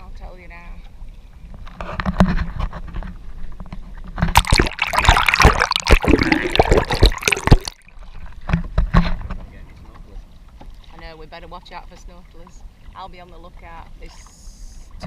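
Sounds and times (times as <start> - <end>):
water sloshing against hull: 0.0 - 15.0
kayak paddle splashing: 0.8 - 15.0.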